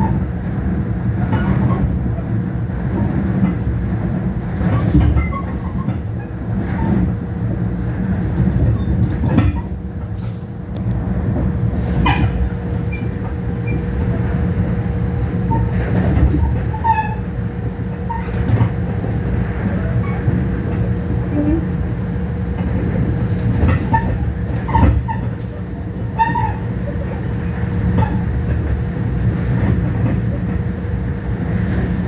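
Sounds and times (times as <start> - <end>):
train rumble inside car: 0.0 - 32.0.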